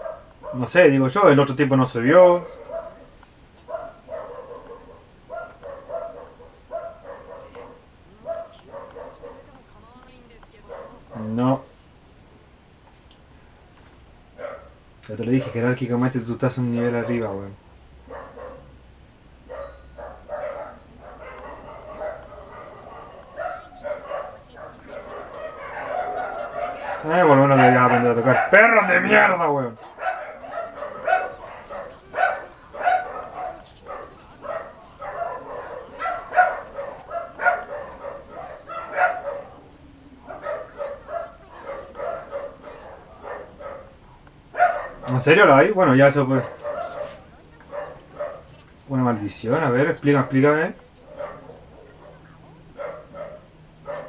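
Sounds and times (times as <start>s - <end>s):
dogs barking and yelping: 0.0s - 11.7s, 14.2s - 54.0s.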